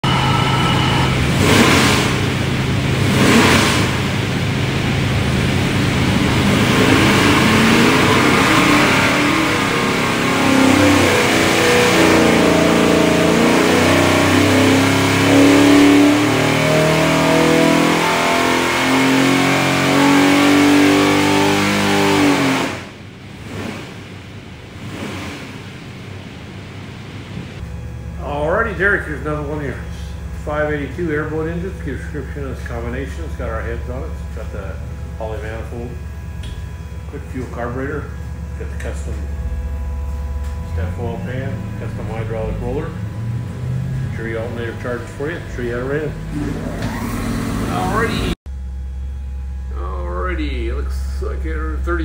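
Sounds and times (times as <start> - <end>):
loud engine revving: 0.0 - 26.2, 27.6 - 48.4, 49.2 - 52.0.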